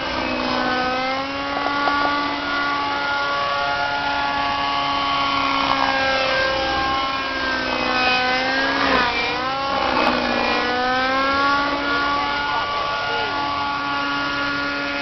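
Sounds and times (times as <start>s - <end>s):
model helicopter whine: 0.0s - 15.0s.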